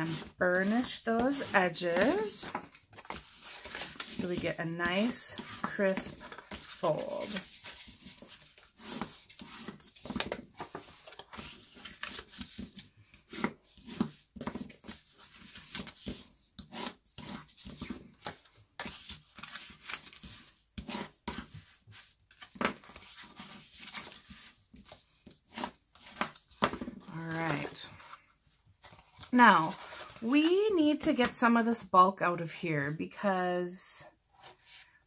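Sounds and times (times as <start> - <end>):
bone folder scraping paper: 0.0 - 30.3.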